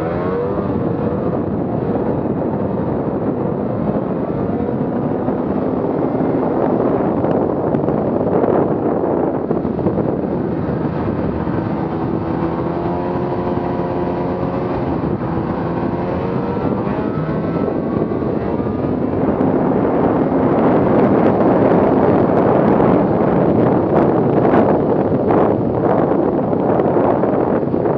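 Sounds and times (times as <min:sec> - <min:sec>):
snowmobile engine running: 0:00.0 - 0:27.9.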